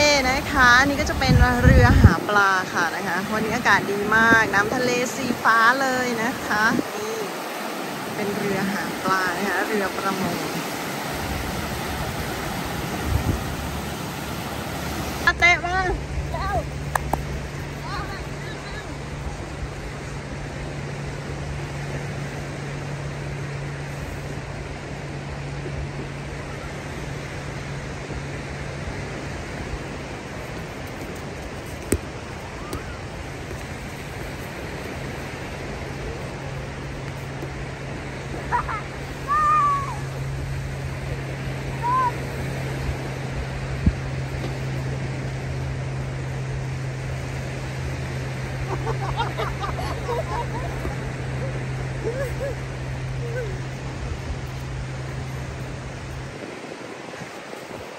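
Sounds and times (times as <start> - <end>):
steady low hum: 0.0 - 57.9
surf rushing: 0.0 - 57.9
wind on microphone: 0.0 - 57.9.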